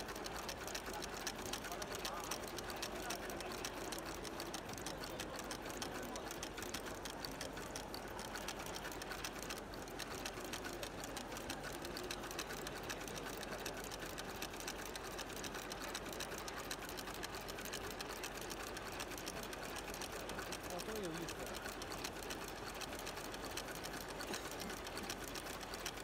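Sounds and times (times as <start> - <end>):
stitching machine clattering: 0.0 - 26.0.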